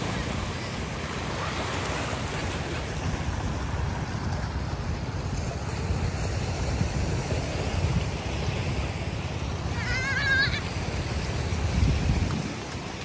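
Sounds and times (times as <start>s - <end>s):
small waves washing on beach: 0.0s - 13.0s
wind rumbling on microphone: 0.0s - 13.0s.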